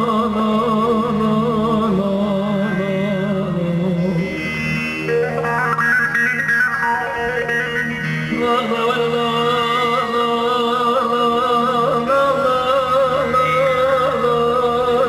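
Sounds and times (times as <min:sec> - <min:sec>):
man singing: 0:00.0 - 0:04.4, 0:05.1 - 0:15.0.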